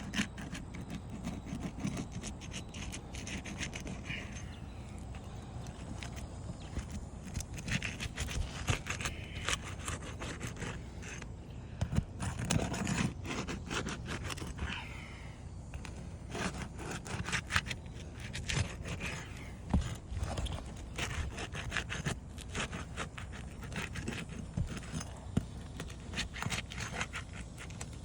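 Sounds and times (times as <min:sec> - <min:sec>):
shingles scraping and crackling: 0:00.0 - 0:14.8, 0:15.6 - 0:28.0.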